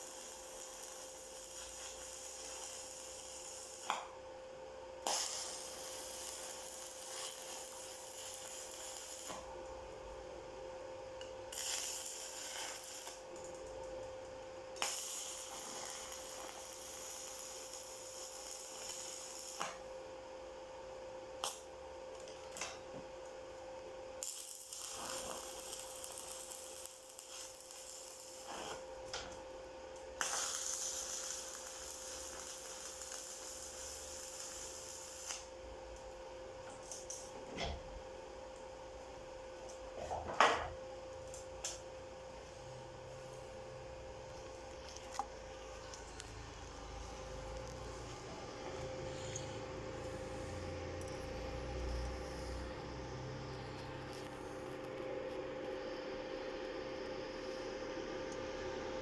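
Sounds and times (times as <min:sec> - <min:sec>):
welding arc hissing and crackling: 0:00.0 - 0:04.2, 0:04.8 - 0:10.2, 0:11.4 - 0:20.1, 0:20.8 - 0:38.0, 0:41.1 - 0:59.0
steady hum: 0:00.0 - 0:59.0.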